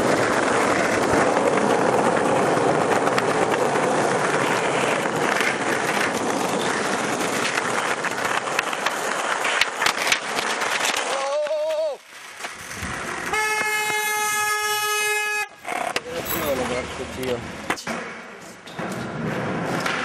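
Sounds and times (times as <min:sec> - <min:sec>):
skateboard clacks: 0:00.0 - 0:16.5, 0:17.5 - 0:20.0
skateboard wheels rolling on asphalt: 0:00.0 - 0:20.0.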